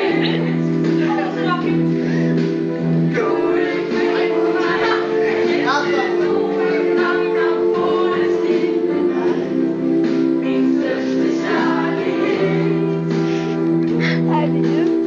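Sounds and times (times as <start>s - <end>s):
boys singing: 0.0s - 2.2s, 3.0s - 13.3s
backing music with held chords: 0.0s - 15.0s.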